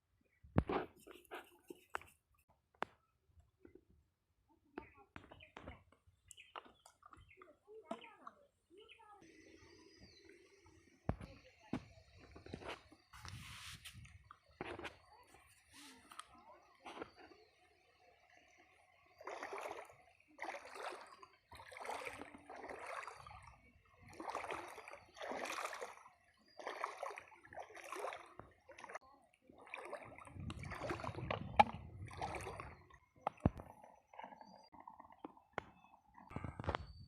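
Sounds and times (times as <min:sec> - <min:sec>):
water splashing and sloshing: 0:04.6 - 0:37.0.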